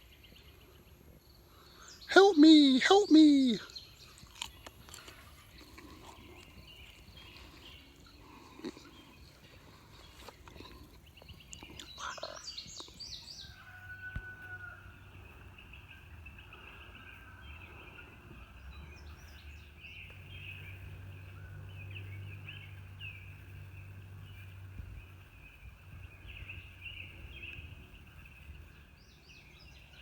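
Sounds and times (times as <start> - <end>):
bird calls: 1.5 - 30.0.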